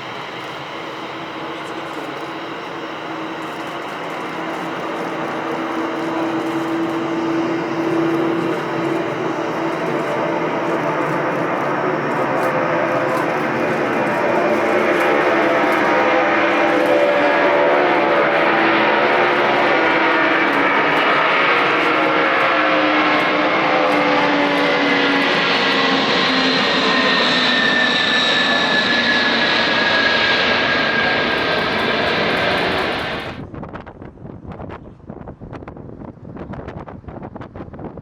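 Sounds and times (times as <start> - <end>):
airliner engines passing: 0.0 - 34.3.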